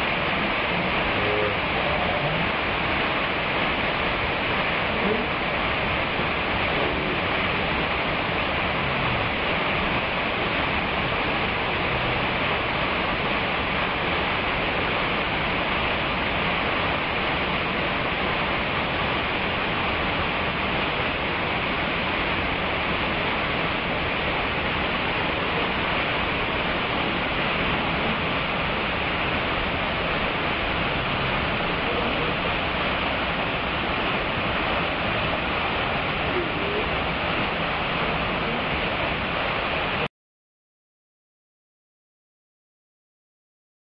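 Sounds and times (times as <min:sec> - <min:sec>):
waterfall pouring over rock: 0:00.0 - 0:40.1.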